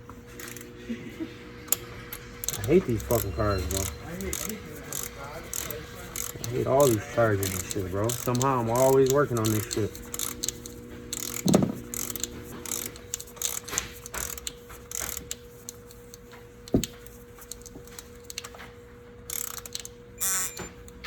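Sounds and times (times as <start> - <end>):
ratchet wrench clicking: 0.4 - 0.7, 1.7 - 18.7, 19.3 - 21.0.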